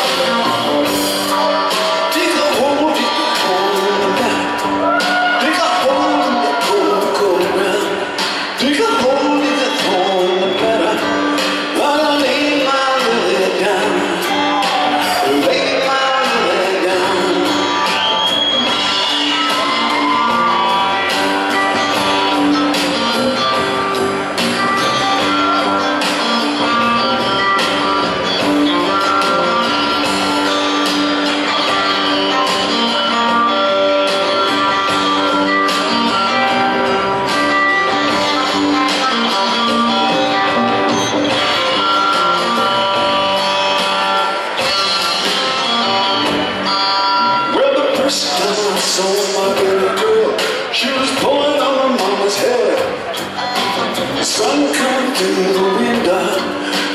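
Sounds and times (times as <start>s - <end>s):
live band playing: 0.0s - 56.9s.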